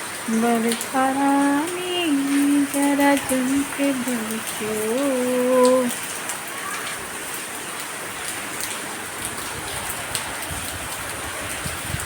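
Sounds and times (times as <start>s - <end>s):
raindrops ticking on a surface: 0.0s - 12.0s
steady rain hiss: 0.0s - 12.0s.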